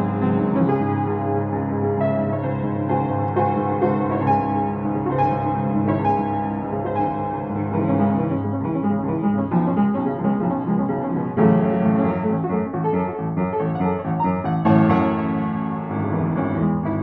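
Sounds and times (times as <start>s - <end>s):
upright piano playing: 0.0s - 17.0s.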